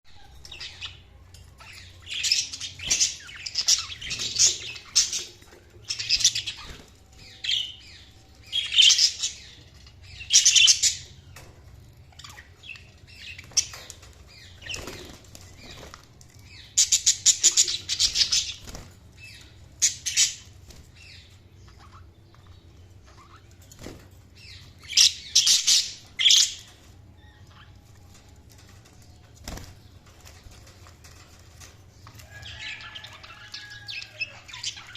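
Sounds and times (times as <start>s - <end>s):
budgerigars chirping and chattering: 0.1s - 27.8s, 29.5s - 34.9s.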